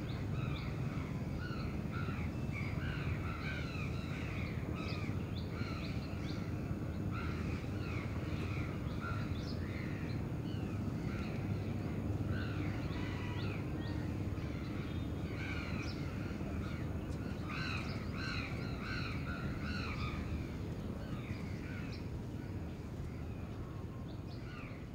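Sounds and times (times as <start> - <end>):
low city rumble: 0.0 - 24.9.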